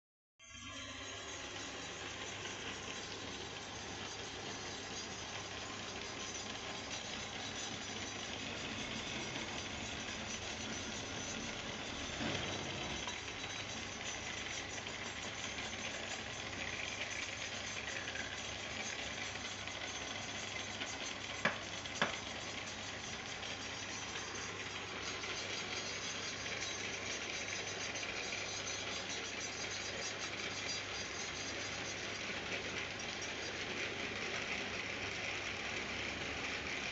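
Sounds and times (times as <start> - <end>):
lathe tool cutting wood: 1.0 - 33.4.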